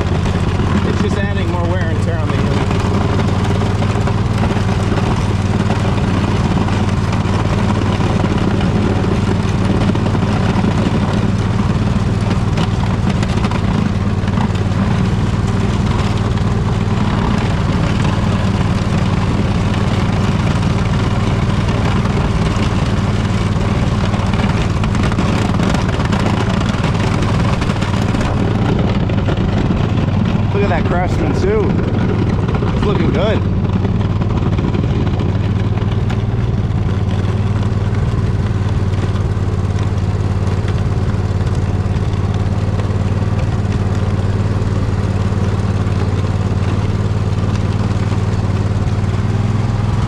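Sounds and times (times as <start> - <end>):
lawn tractor engine under load: 0.0 - 50.0.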